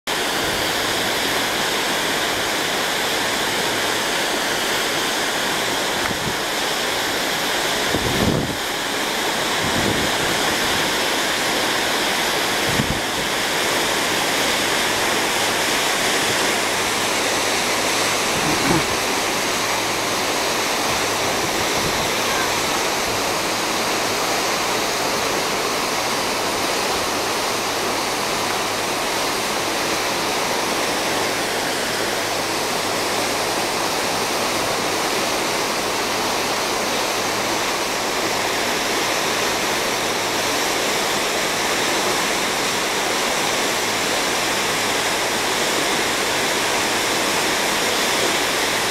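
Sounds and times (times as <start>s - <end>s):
wind: 0.0s - 48.9s
sea water rushing: 0.1s - 48.9s.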